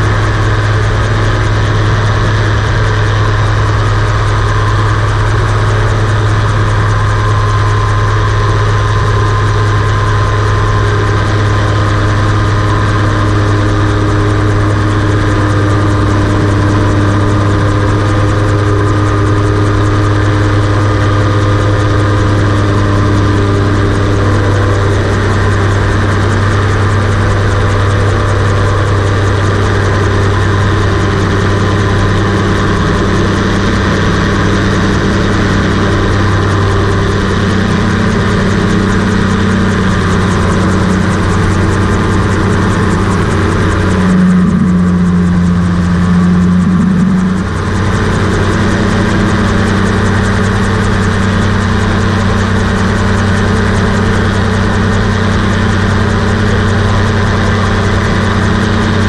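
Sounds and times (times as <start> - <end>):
aircraft engine running in flight: 0.0 - 59.0.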